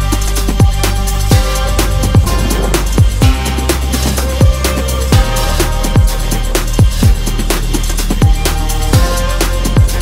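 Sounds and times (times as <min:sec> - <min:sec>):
electronic music with heavy kicks: 0:00.0 - 0:10.0.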